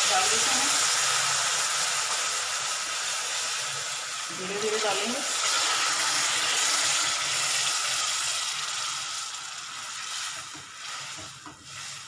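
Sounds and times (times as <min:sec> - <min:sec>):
semolina sizzling in pan: 0:00.0 - 0:12.0.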